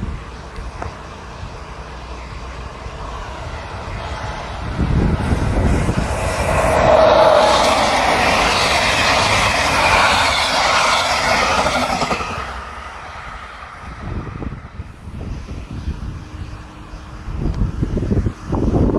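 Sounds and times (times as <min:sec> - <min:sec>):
train passing at speed: 0:00.0 - 0:18.9.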